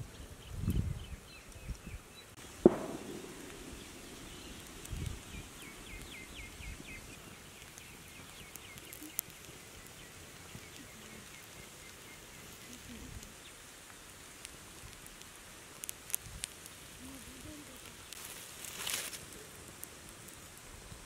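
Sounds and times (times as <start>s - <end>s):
fire popping: 0.0s - 21.0s
wood fire burning: 0.0s - 21.0s.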